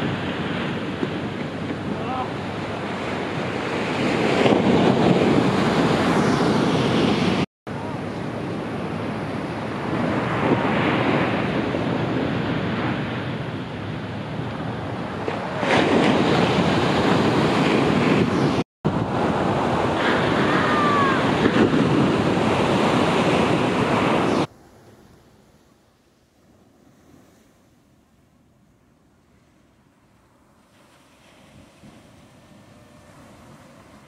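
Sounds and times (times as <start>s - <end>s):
wind on microphone: 0.0s - 29.9s
ocean waves breaking on sand: 0.0s - 34.0s.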